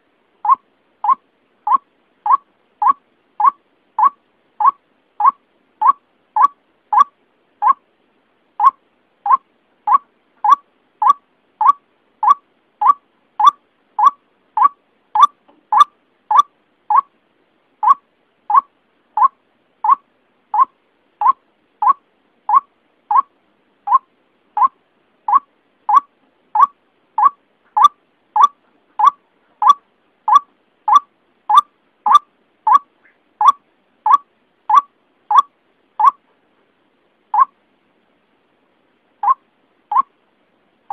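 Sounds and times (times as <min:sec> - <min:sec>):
waterhen calling: 0:00.4 - 0:07.8, 0:08.6 - 0:17.1, 0:17.8 - 0:23.3, 0:23.9 - 0:36.2, 0:37.3 - 0:37.6, 0:39.2 - 0:40.1.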